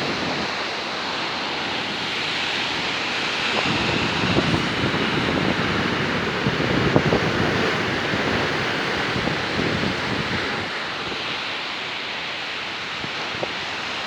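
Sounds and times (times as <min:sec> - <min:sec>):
waves breaking on shore: 0:00.0 - 0:14.0
wind buffeting microphone: 0:00.0 - 0:14.0.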